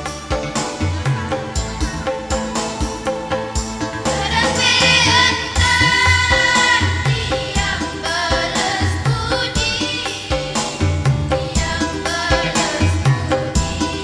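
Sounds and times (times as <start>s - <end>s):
backing track with bass and drums: 0.0s - 14.0s
choir singing: 0.0s - 14.0s.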